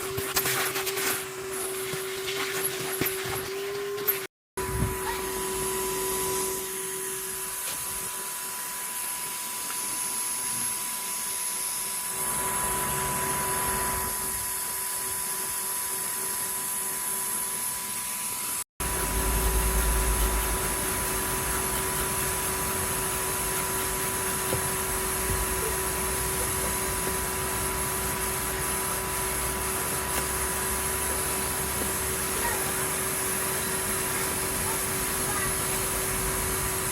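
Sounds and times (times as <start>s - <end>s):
vacuum cleaner whining: 0.0s - 36.9s.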